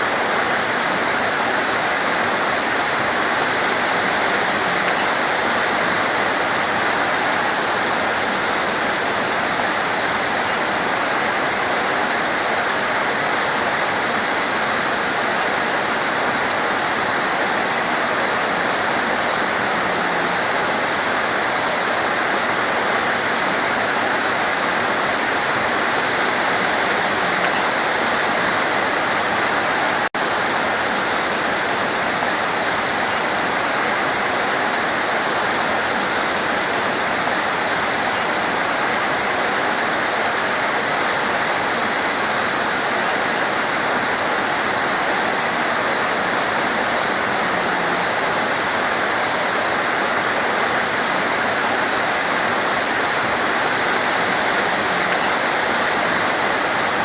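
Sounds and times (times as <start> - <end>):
torrential rain hissing: 0.0 - 57.0.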